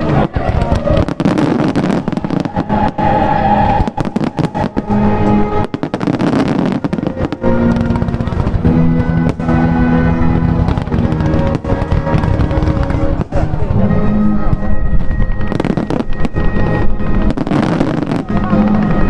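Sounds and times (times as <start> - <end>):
fireworks bursting and crackling: 0.0 - 19.0
music: 0.0 - 19.0.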